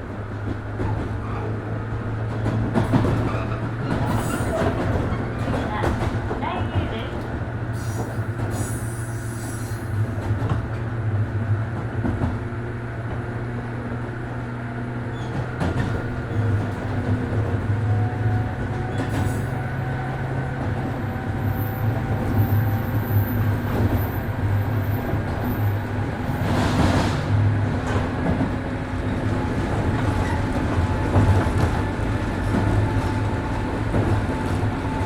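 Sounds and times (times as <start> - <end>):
wheels rolling on rail: 0.0 - 35.0.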